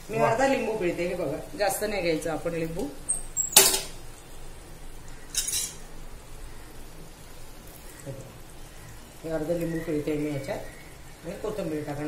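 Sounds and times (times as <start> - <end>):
faint sizzle: 0.0 - 12.0.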